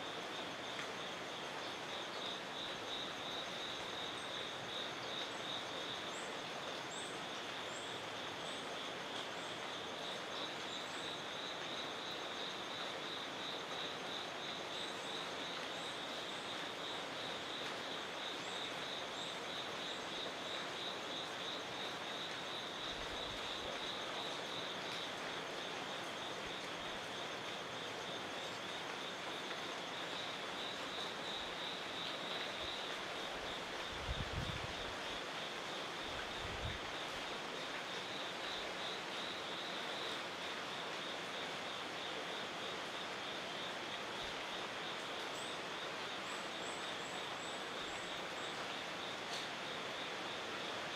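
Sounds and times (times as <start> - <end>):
background hiss: 0.0 - 50.9
insect chorus trilling: 0.1 - 50.7.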